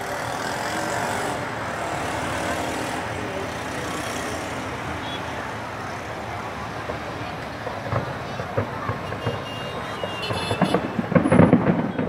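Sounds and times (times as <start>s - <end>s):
crowd voices: 0.0s - 12.0s
street traffic: 0.0s - 12.0s.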